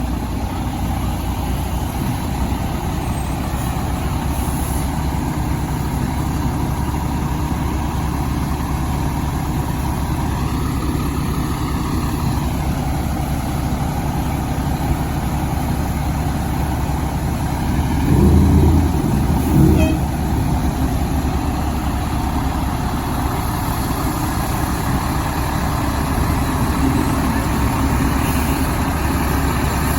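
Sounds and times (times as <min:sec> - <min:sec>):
fire engine diesel rumble: 0:00.0 - 0:29.9.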